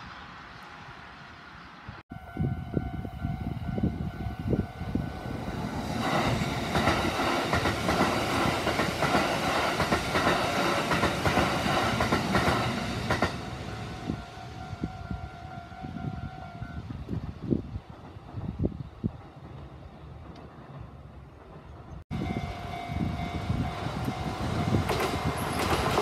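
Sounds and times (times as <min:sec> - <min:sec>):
electric train rushing past: 0:00.0 - 0:26.0.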